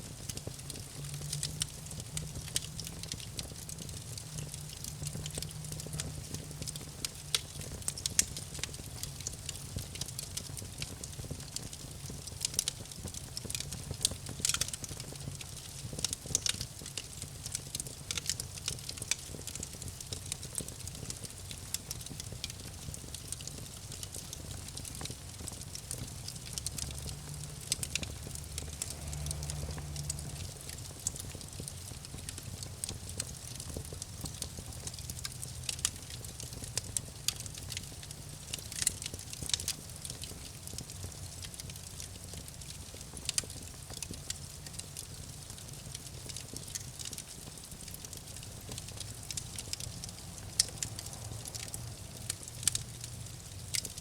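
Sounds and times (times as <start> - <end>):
low rumble of flames: 0.0 - 54.0
burning wood popping and snapping: 0.2 - 54.0.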